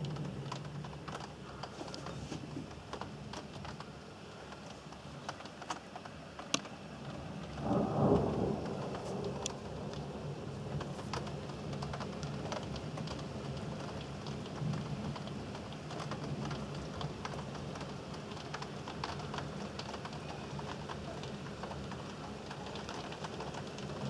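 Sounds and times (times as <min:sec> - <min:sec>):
rain falling: 0:00.0 - 0:24.0
raindrops tapping hard surface: 0:00.0 - 0:24.0.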